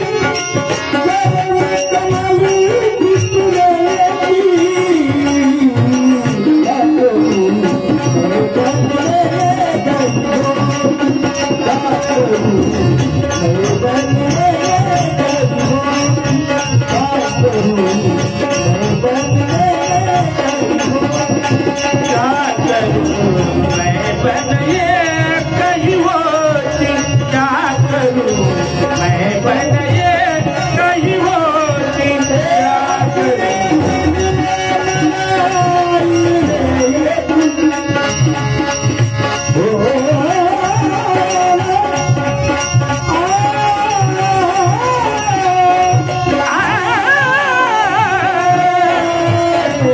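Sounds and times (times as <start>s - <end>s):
wavering devotional melody: 0.0s - 49.9s.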